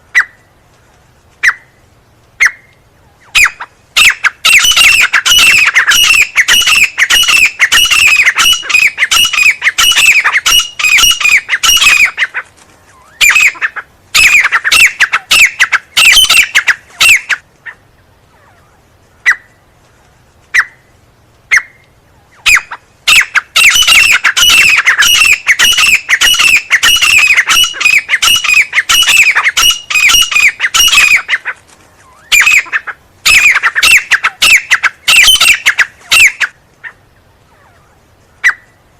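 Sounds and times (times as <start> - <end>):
francolin calling: 1.4 - 19.6, 21.5 - 38.9.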